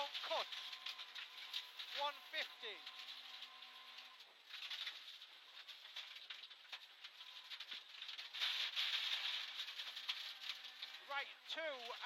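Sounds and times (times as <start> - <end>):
sharp clicks and rattles: 0.0 - 12.0.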